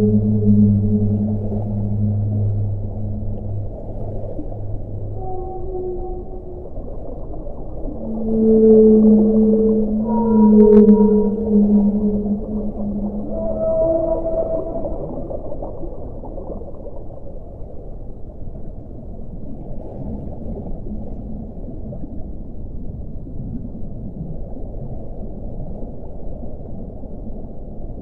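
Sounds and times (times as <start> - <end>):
underwater rumble and gurgle: 0.0 - 28.0.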